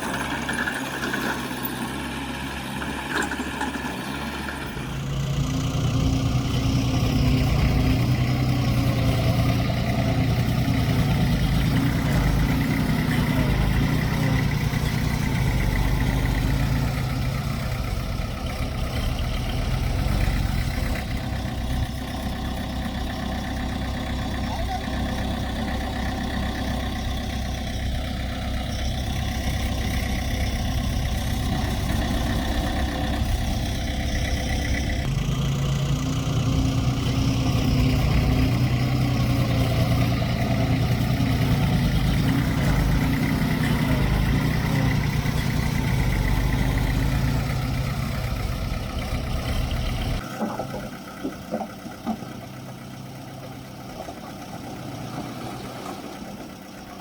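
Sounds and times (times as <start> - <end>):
engine knocks: 0.0 - 57.0
heavy diesel engines running: 0.0 - 57.0.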